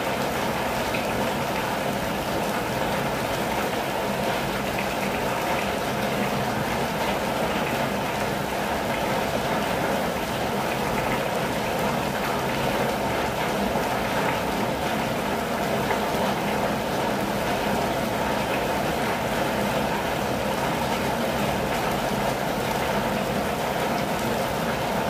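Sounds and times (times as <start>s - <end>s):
rain on a vehicle roof: 0.0s - 25.0s.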